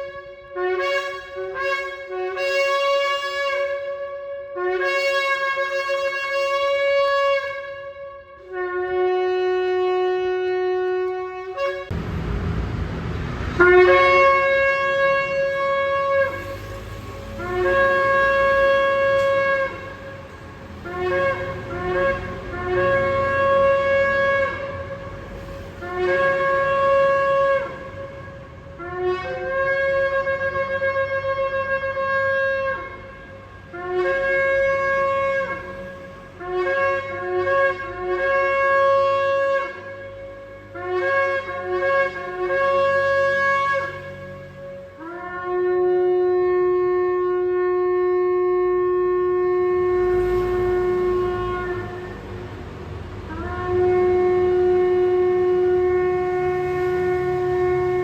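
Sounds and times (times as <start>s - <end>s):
shofar blasts: 0.0s - 12.0s, 13.5s - 52.6s, 53.3s - 58.0s.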